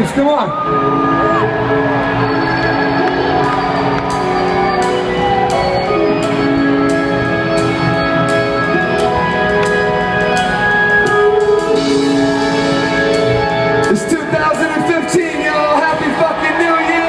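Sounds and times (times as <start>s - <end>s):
live electronic music: 0.0s - 17.0s.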